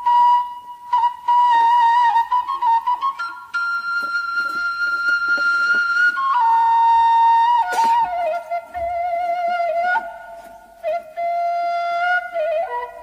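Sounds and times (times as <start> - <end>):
flute playing slow melody: 0.0 - 13.0.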